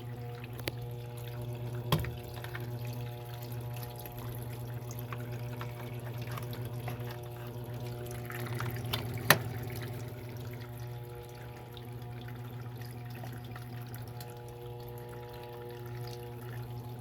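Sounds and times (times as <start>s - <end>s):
washing machine low hum: 0.0s - 17.0s
water splashing in washing machine: 0.0s - 17.0s.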